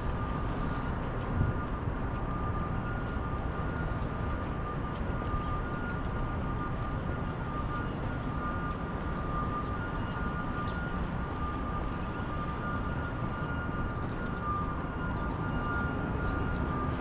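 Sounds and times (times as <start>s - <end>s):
city traffic: 0.0s - 17.0s
high-pitched hum: 0.0s - 17.0s
wind rumble on microphone: 0.0s - 17.0s.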